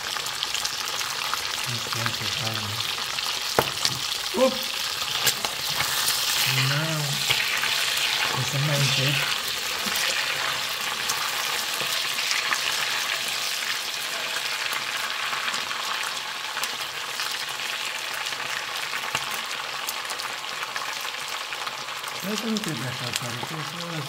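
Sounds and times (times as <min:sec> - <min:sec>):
meat sizzling in oil: 0:00.0 - 0:24.0.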